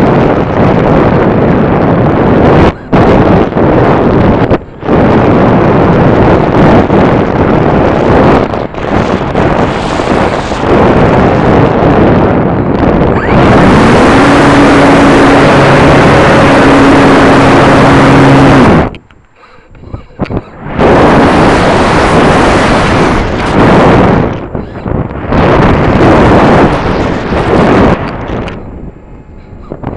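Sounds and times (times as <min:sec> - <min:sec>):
steady motor hum: 0:00.0 - 0:29.9
wind buffeting microphone: 0:00.0 - 0:29.9.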